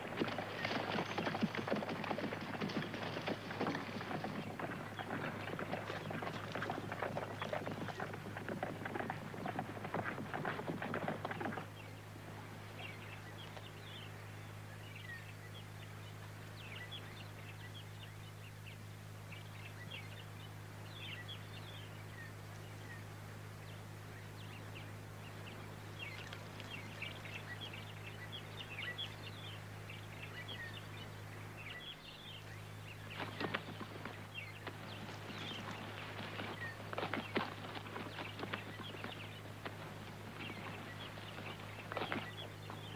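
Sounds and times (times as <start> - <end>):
small birds chirping: 0.0 - 42.9
steady low hum: 0.0 - 42.9.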